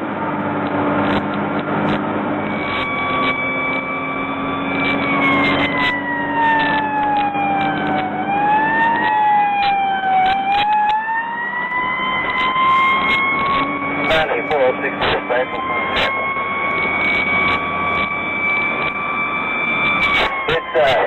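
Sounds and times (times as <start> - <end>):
fire engine siren wailing: 0.0 - 21.0.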